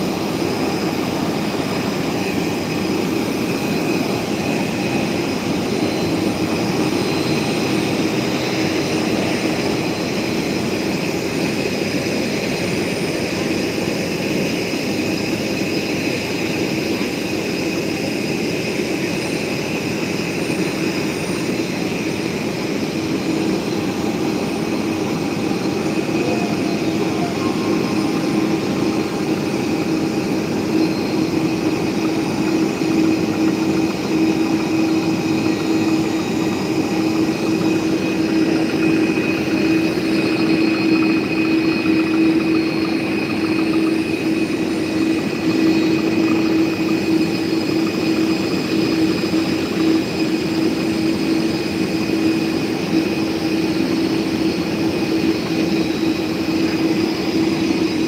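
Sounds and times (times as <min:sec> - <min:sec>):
jet turbines whining: 0:00.0 - 0:58.0.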